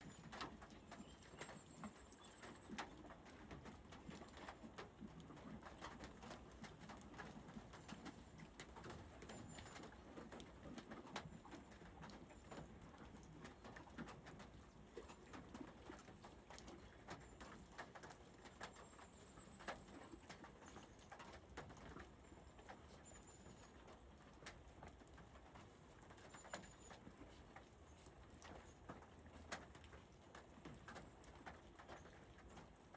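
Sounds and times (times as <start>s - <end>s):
faint rain dripping: 0.0s - 32.9s.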